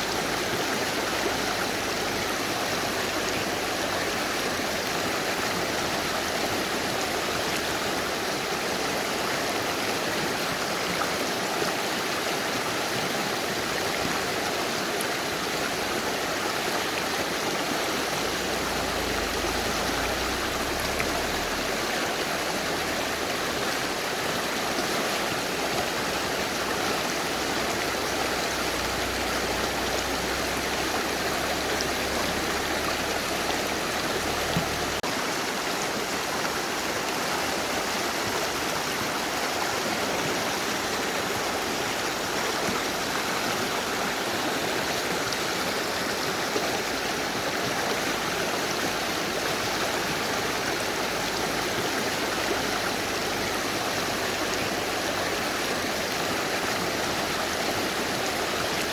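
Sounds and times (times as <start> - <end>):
river rushing over stones: 0.0 - 58.9.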